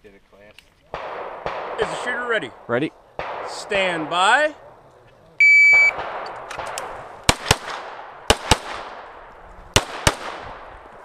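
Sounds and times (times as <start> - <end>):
pistol shots with echo: 0.9 - 4.9, 5.6 - 10.9.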